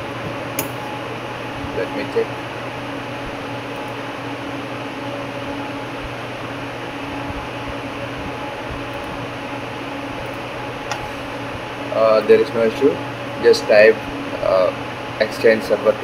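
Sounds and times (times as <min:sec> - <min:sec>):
fan hum and hiss: 0:00.0 - 0:16.0.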